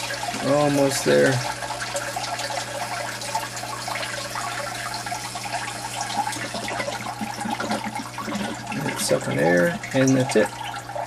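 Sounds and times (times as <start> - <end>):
water gurgling and draining: 0.0 - 11.0.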